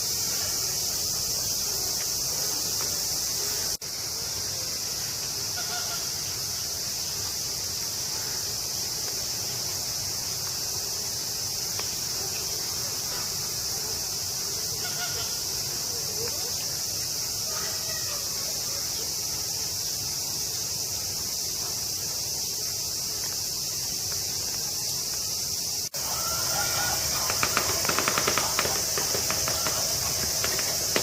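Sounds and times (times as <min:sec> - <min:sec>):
cicadas buzzing: 0:00.0 - 0:31.0.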